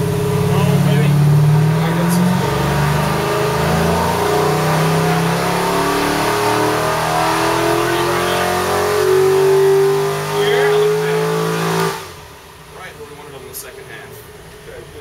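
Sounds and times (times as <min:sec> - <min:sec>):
engine revving under load: 0:00.0 - 0:13.6.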